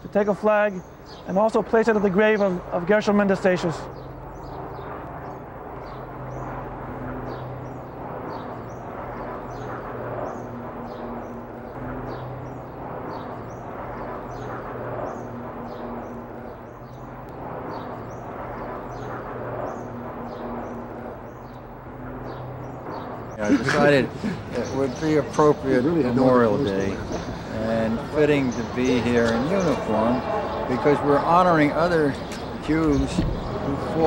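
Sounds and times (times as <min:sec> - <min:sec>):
low city hum: 0:00.0 - 0:34.0
small birds chirping: 0:00.0 - 0:34.0.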